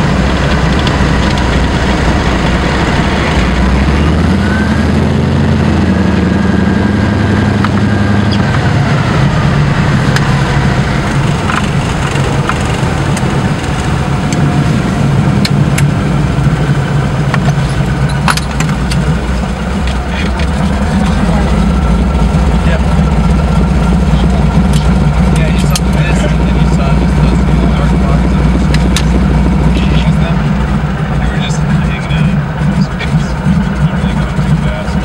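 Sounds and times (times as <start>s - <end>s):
propeller engine running: 0.0s - 35.0s.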